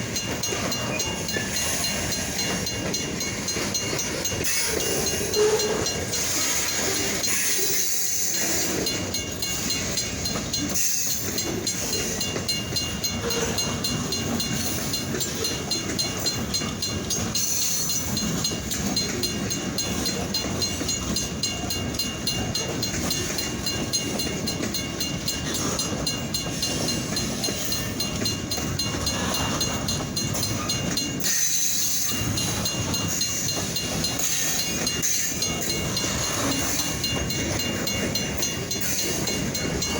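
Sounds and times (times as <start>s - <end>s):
crossing bell ringing rapidly: 0.0s - 39.9s
freight train wheels rumbling on rails: 0.0s - 39.9s.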